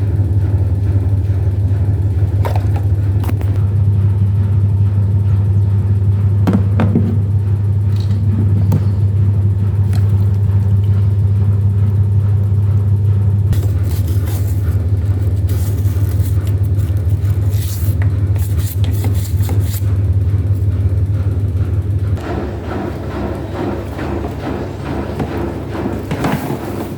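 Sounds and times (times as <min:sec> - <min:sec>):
machine humming: 0:00.0 - 0:26.9.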